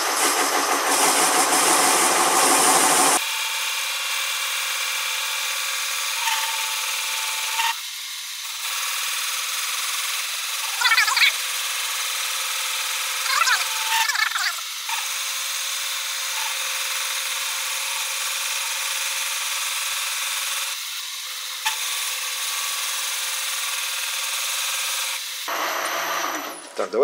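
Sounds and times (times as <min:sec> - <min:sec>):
lathe running: 0:00.0 - 0:26.8
tool cutting aluminium: 0:00.0 - 0:26.8.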